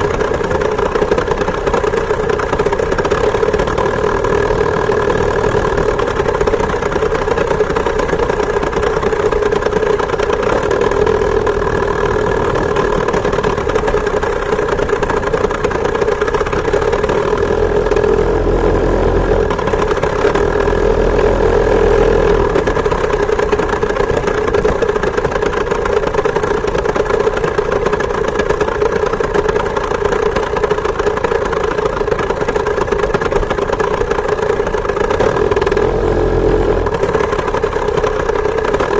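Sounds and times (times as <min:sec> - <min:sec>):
moped two-stroke engine running: 0:00.0 - 0:38.9.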